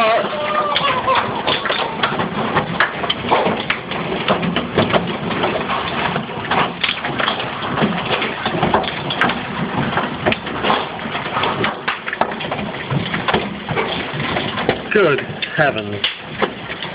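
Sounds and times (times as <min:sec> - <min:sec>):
hailstones clattering: 0:00.0 - 0:16.9.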